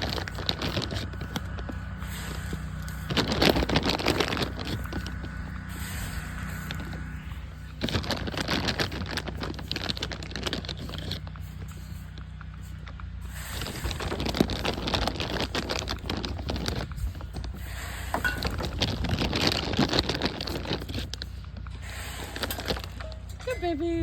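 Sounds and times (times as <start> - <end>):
foxes crunching dry snacks: 0.0 - 24.0
low steady hum: 0.0 - 24.0.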